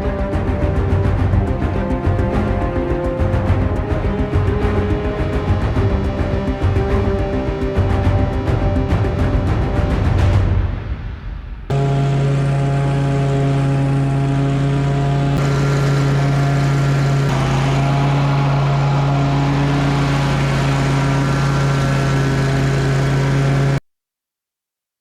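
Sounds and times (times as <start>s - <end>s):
pickup truck engine running: 0.0s - 10.5s, 11.7s - 23.8s.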